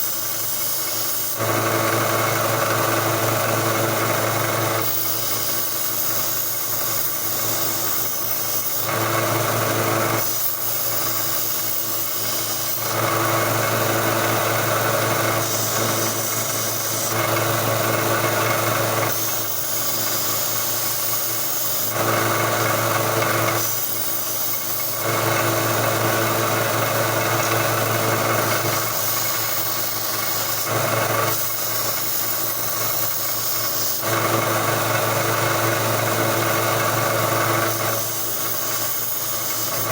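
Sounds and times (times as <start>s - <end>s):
belt sander motor humming: 0.0s - 39.9s
metal grinding on sanding belt: 0.0s - 39.9s.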